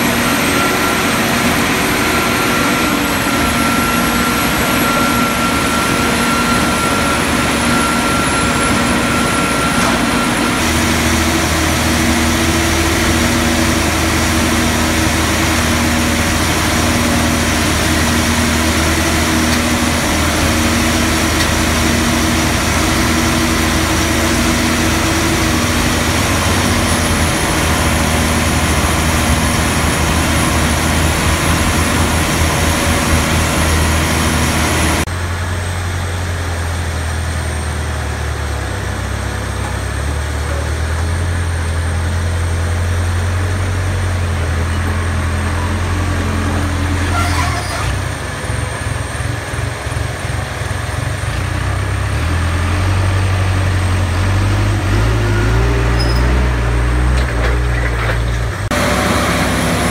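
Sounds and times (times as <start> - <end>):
harvester machinery drone: 0.0 - 59.9.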